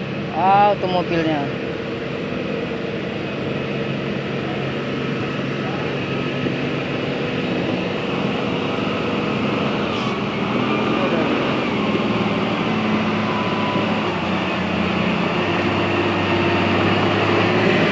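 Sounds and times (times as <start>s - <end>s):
diesel engine humming: 0.0s - 17.9s.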